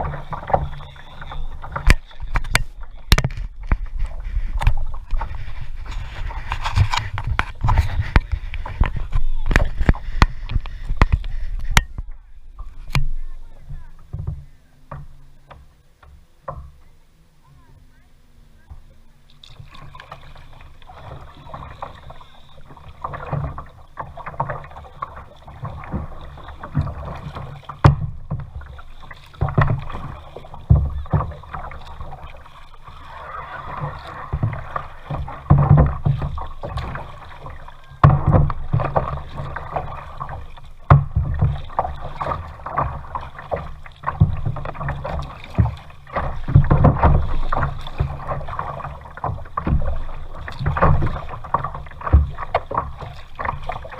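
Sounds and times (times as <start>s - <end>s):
paddle splashing water: 0.0s - 53.9s.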